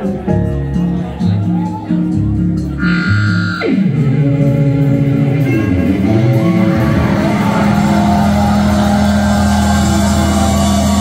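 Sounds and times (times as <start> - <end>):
amplified electric guitars and bass: 0.0 - 11.0.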